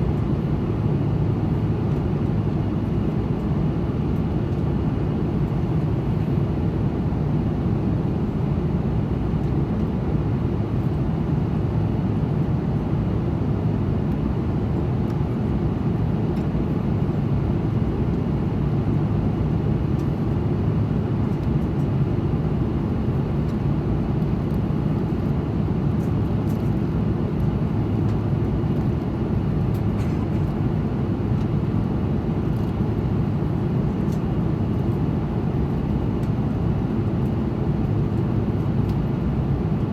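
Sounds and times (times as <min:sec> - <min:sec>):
aircraft cabin engine and airflow noise: 0:00.0 - 0:39.9.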